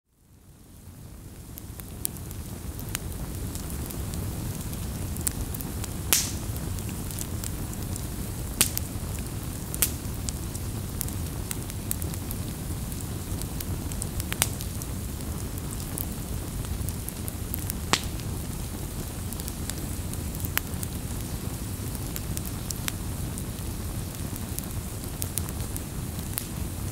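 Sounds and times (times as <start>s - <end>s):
fire crackling and popping: 0.3s - 26.9s.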